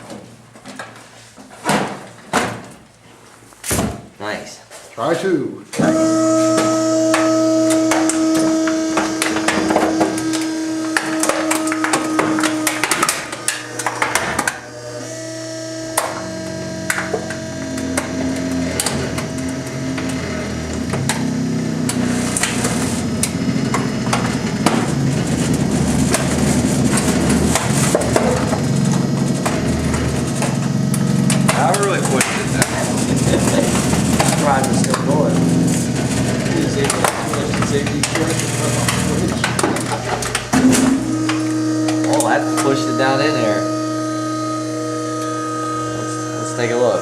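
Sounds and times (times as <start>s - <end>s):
trash compactor motor drone: 5.8s - 47.0s.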